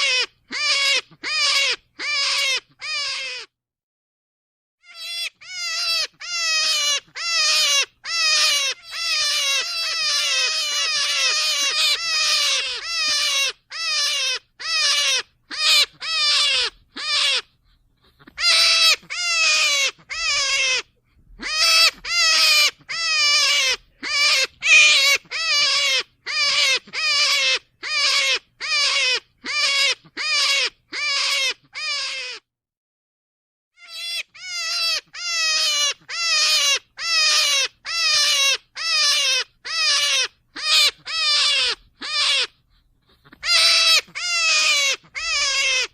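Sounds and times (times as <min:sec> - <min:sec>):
rabbit squealing: 0:00.0 - 0:03.6, 0:04.8 - 0:32.5, 0:33.8 - 0:45.9.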